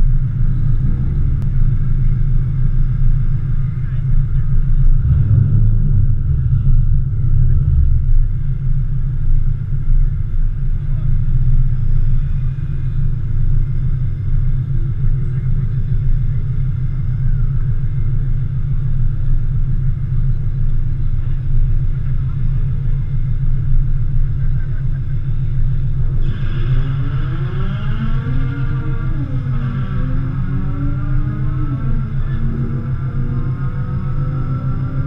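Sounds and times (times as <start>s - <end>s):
car engines idling: 0.0s - 35.0s.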